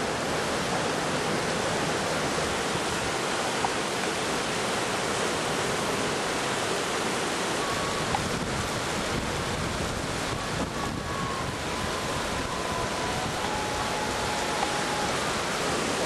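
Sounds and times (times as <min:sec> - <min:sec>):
white water rushing over rapids: 0:00.0 - 0:16.0.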